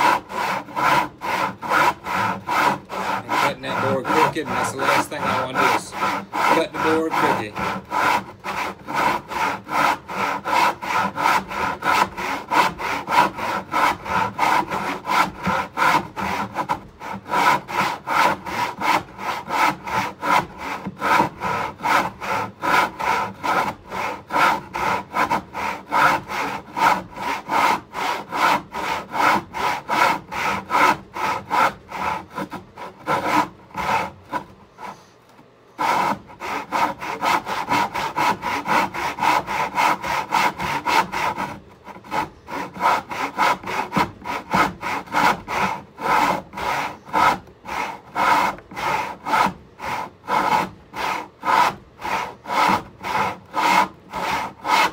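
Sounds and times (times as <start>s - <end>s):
hand saw cutting wood: 0.0s - 54.9s.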